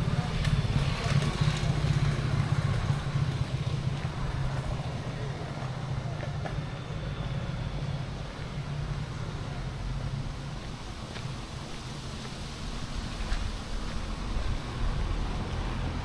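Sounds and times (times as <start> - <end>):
road vehicle engine rumble: 0.0 - 16.0.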